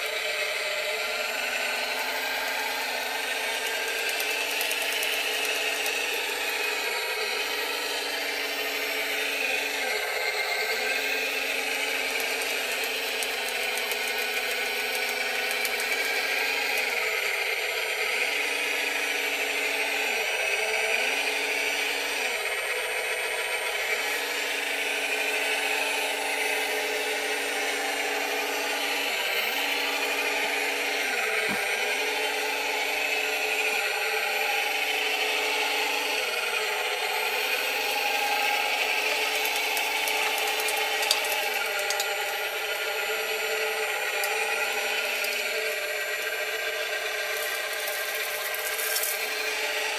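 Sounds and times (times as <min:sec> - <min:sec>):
toy loader motors whining and rattling: 0:00.0 - 0:49.9.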